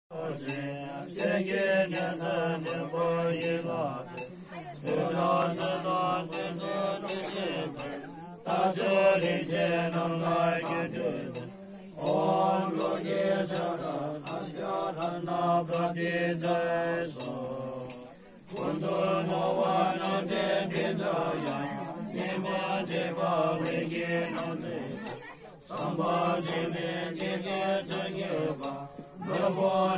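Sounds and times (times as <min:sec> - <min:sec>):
monks chanting in unison: 0:00.1 - 0:29.9.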